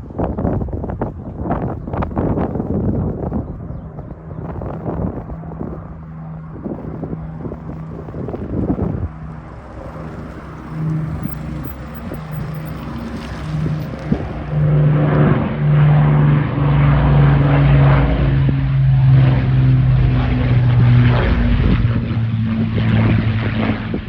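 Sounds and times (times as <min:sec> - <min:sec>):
propeller aircraft flying over: 0:00.0 - 0:24.0.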